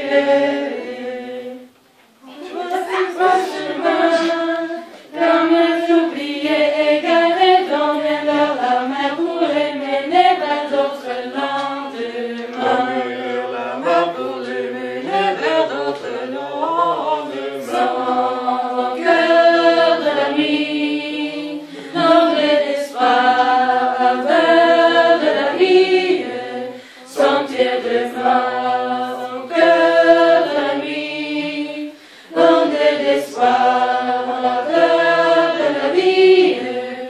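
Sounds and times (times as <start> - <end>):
choir singing a cappella: 0.0 - 37.0.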